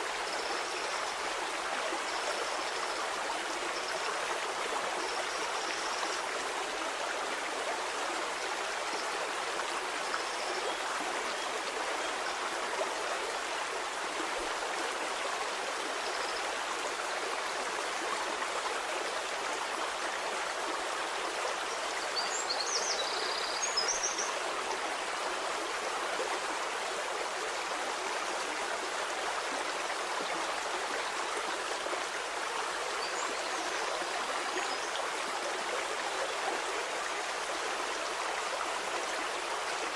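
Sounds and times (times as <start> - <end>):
flowing stream rushing: 0.0 - 39.9.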